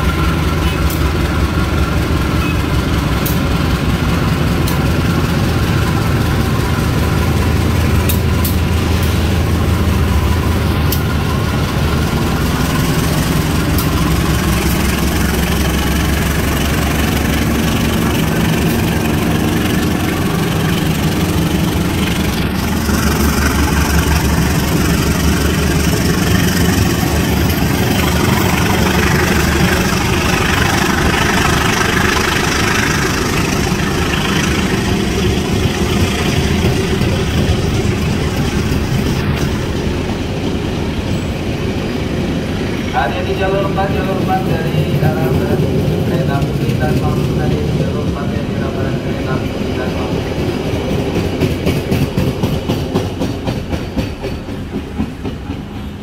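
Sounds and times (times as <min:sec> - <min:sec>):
diesel locomotive engine running: 0:00.0 - 0:56.0
train coaches rolling past: 0:00.0 - 0:56.0.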